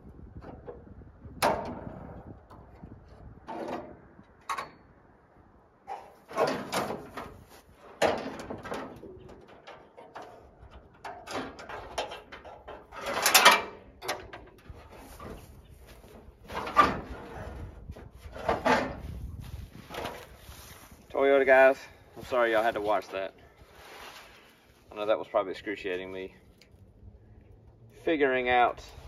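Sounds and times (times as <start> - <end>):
sheet metal scraping and clunking: 0.4 - 4.9, 5.9 - 24.8.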